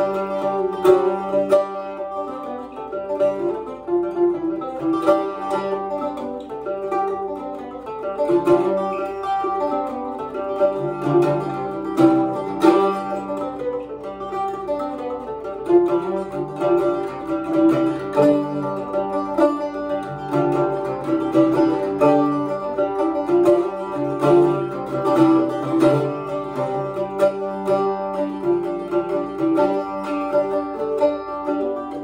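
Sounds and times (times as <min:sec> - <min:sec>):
bouzouki playing a jig: 0:00.0 - 0:32.0.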